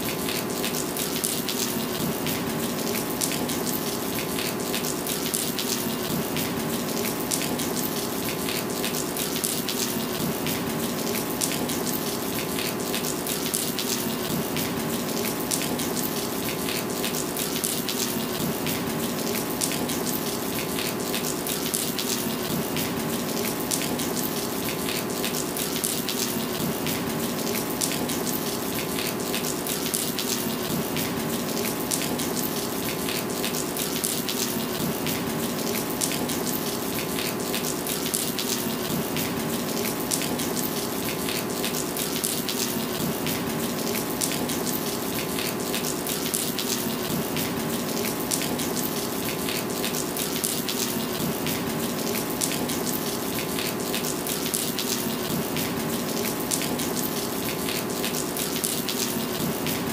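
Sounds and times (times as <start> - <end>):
heavy rain on pavement: 0.0 - 59.9
water pouring off roof edge: 0.0 - 59.9.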